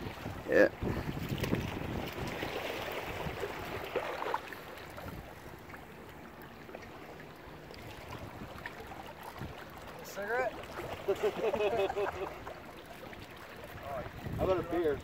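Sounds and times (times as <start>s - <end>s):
moving water: 0.0s - 15.0s
wind: 0.0s - 15.0s.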